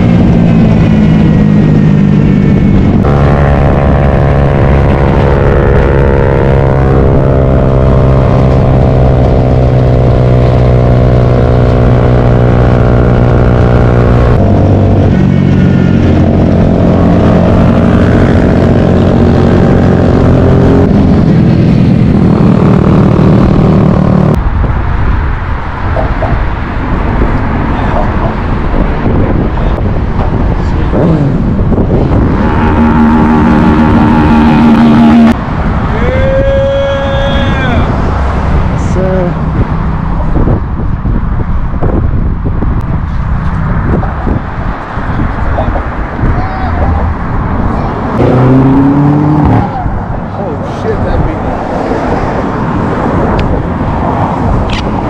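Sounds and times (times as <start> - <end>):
motorcycle engine cruising: 0.0 - 24.6, 26.3 - 35.8, 36.8 - 55.0
wind noise: 0.0 - 55.0.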